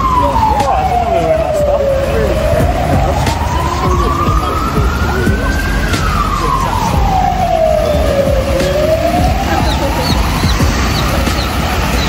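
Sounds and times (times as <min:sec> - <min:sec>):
emergency vehicle siren wailing: 0:00.0 - 0:12.0
street background noise: 0:00.0 - 0:12.0.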